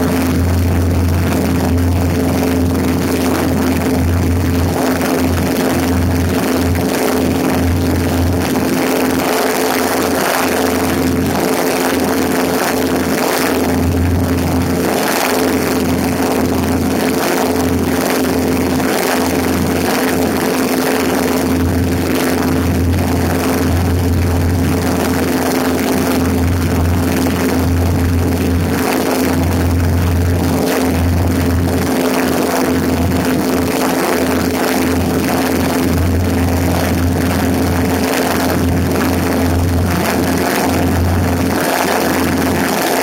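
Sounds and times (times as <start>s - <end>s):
propeller plane engine droning: 0.0s - 43.0s.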